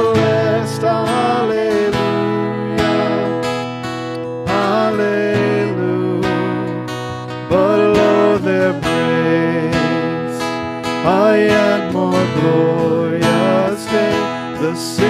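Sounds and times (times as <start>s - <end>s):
person singing a hymn: 0.0s - 15.0s
strummed acoustic guitar: 0.0s - 15.0s.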